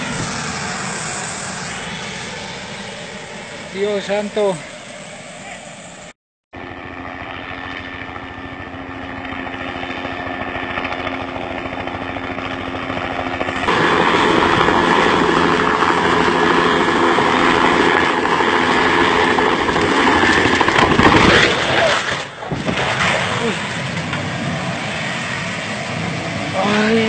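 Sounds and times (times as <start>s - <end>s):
helicopter engine and rotor: 0.0s - 21.2s, 23.0s - 27.0s.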